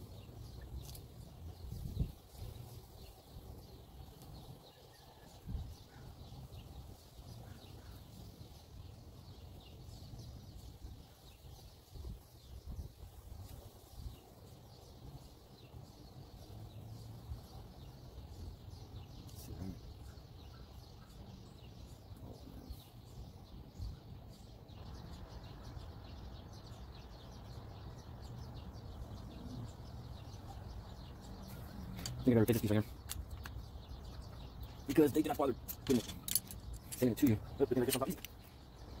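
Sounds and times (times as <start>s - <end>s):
birds chirping faintly: 0.0s - 39.0s.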